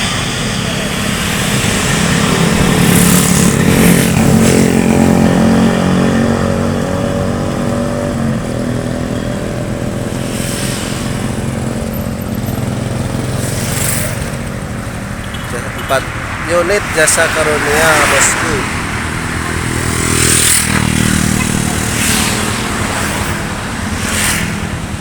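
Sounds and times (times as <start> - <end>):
bus diesel engines running: 0.0 - 25.0.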